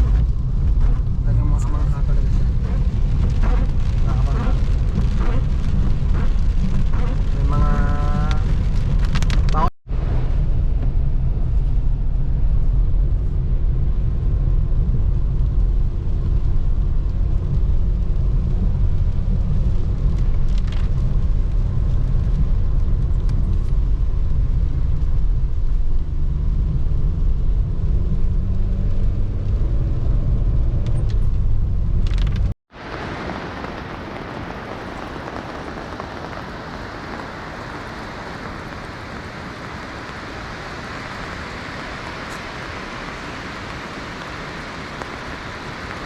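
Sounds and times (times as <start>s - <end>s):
car driving on road: 0.0s - 46.0s.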